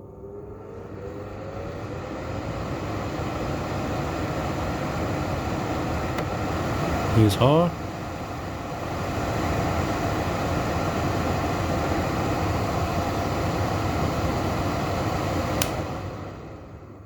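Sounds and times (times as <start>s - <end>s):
exhaust fan running: 0.0s - 17.0s.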